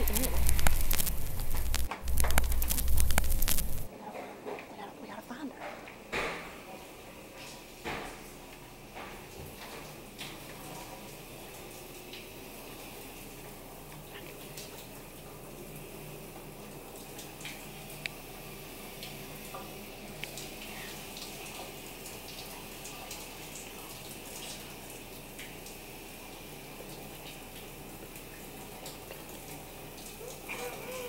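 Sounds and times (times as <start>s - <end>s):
shower running: 0.0s - 3.9s, 5.0s - 31.0s.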